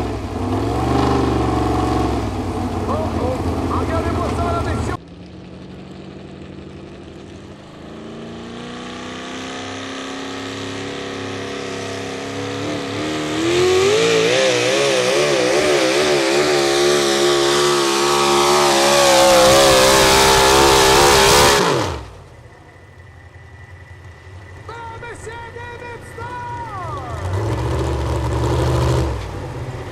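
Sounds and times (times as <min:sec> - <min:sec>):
truck engine revving at full throttle: 0:00.0 - 0:22.5, 0:23.4 - 0:29.9.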